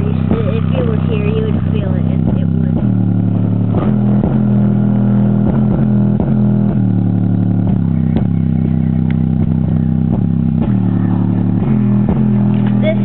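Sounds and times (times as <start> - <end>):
deep bass note: 0.0 - 13.0.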